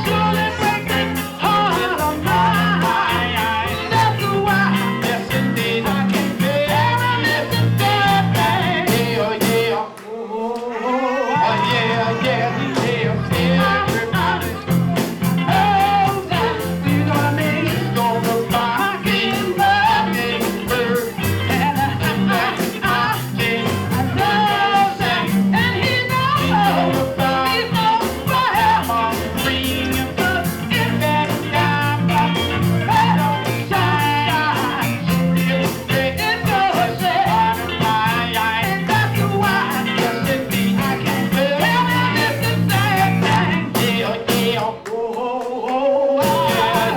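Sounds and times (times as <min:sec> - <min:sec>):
live soul band: 0:00.0 - 0:10.0, 0:11.2 - 0:46.9
person singing: 0:00.0 - 0:46.9.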